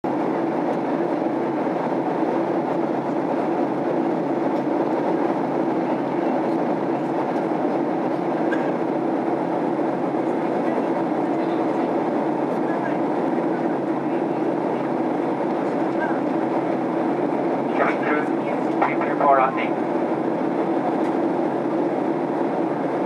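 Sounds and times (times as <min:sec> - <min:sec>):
airliner cabin engine rush: 0:00.0 - 0:23.0.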